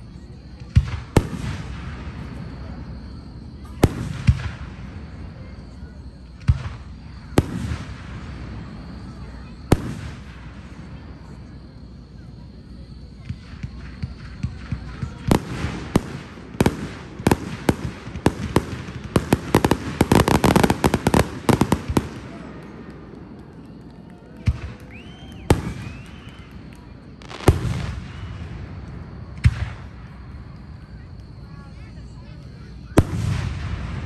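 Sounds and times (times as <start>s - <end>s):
fireworks bangs and crackle: 0.0s - 34.0s
heavy firework booms: 0.6s - 12.0s, 13.2s - 23.5s, 24.4s - 30.5s, 32.9s - 34.0s.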